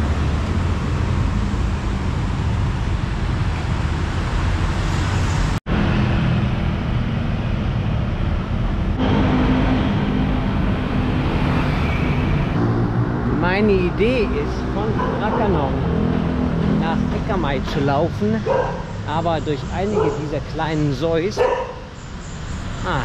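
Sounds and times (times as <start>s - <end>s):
nearer engine hum: 0.0s - 23.0s
street traffic rumble: 0.0s - 23.0s.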